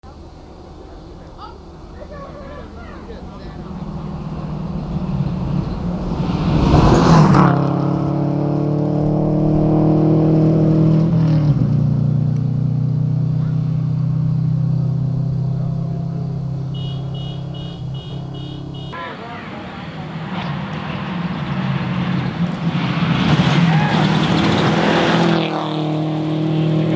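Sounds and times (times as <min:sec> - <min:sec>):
rally car engine passing at speed: 0:00.8 - 0:26.9.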